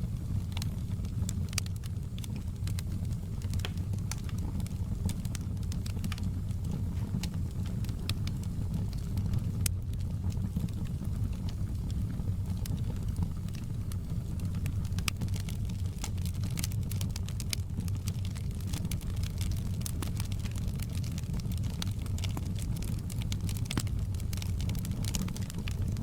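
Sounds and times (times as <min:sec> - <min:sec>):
fire rumbling: 0:00.0 - 0:26.0
wood crackling and popping: 0:00.0 - 0:26.0.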